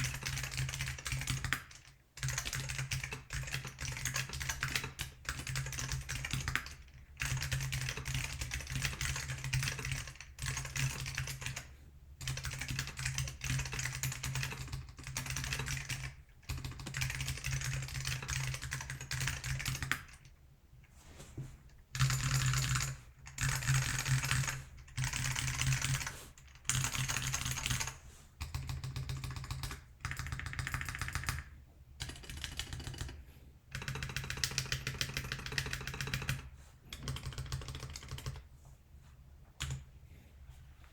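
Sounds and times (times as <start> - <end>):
mechanical keyboard typing: 0.0 - 20.3, 21.9 - 38.4, 39.6 - 39.8.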